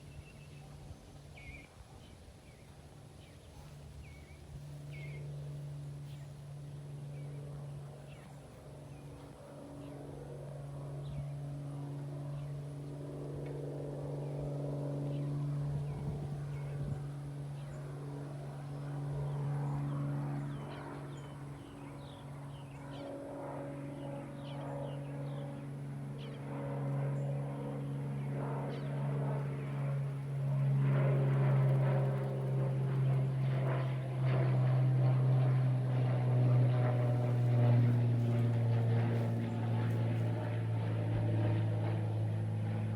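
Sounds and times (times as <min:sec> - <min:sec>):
low engine drone: 0:03.2 - 0:23.0, 0:23.9 - 0:42.9.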